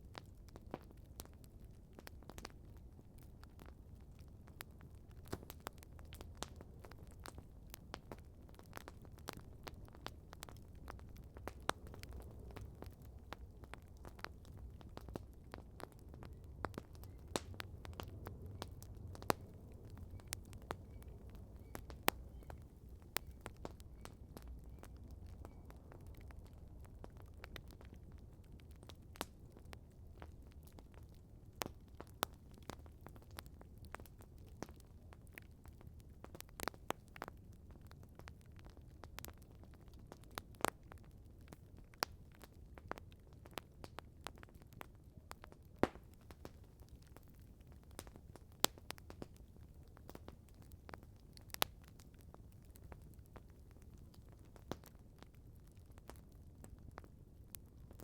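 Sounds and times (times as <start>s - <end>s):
campfire crackling: 0.0s - 58.0s
fire pops and snaps: 0.0s - 58.0s.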